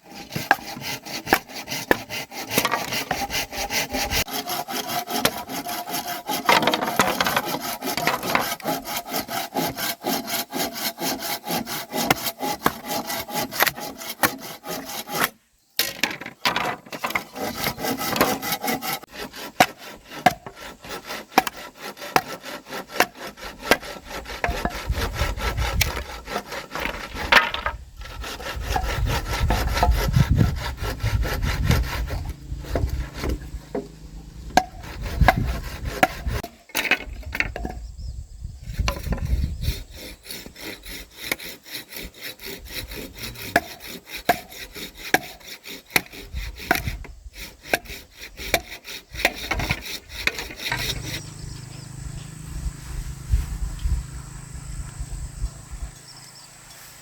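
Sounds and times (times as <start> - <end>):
hand saw cutting wood: 0.0 - 37.6, 38.6 - 56.9.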